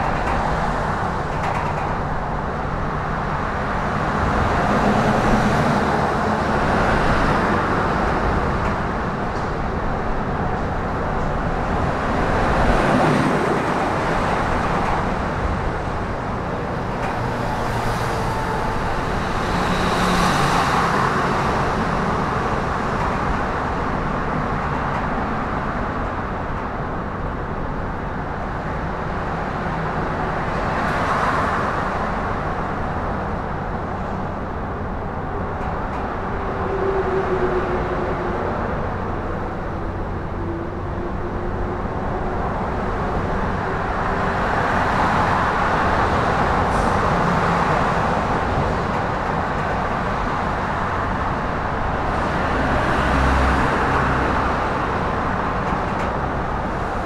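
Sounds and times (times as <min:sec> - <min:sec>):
vehicles passing: 0:00.0 - 0:27.4, 0:28.2 - 0:57.0
road traffic noise: 0:00.0 - 0:57.0.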